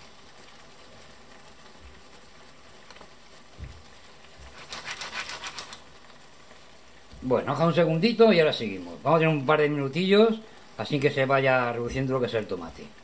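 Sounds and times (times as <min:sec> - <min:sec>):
crackling sizzle: 0:00.0 - 0:13.0
sauce sizzling in a pan: 0:00.0 - 0:13.0.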